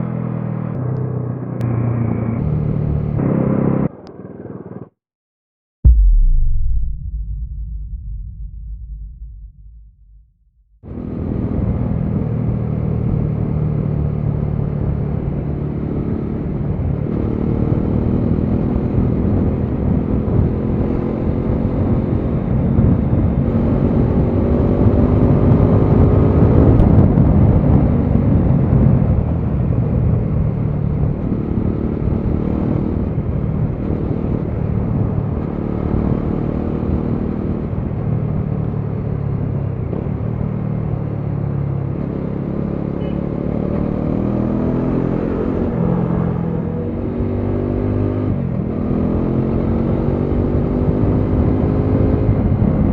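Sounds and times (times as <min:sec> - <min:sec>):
road and wind noise: 0:00.0 - 0:04.9, 0:10.8 - 0:52.9
motorcycle engine and exhaust: 0:05.9 - 0:52.9.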